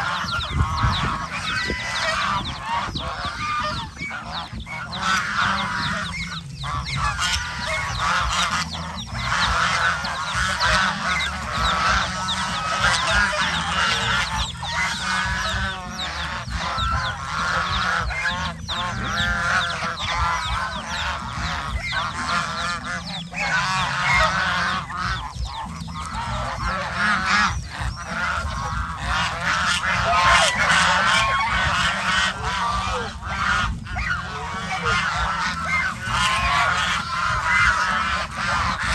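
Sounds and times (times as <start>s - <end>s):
geese honking: 0.0s - 38.9s
low rumble: 0.0s - 38.9s.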